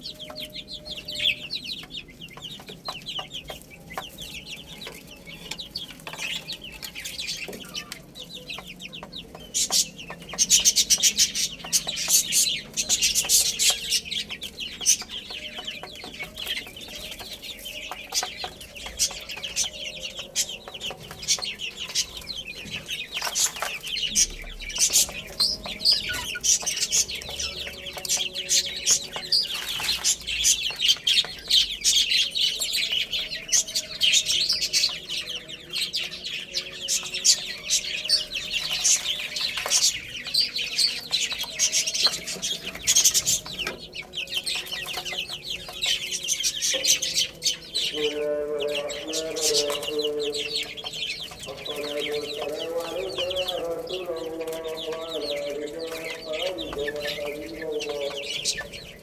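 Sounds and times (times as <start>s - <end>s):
baby chicks peeping: 0.0s - 59.0s.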